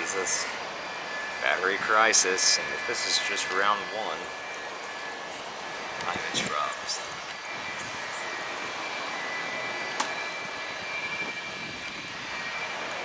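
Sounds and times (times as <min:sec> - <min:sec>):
distant jet engines: 0:00.0 - 0:13.0.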